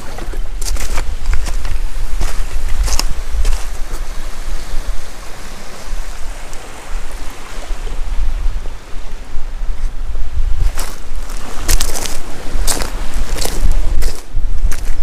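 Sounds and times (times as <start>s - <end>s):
hiss of wind and surf: 0.0s - 15.0s
wind buffeting microphone: 0.0s - 15.0s.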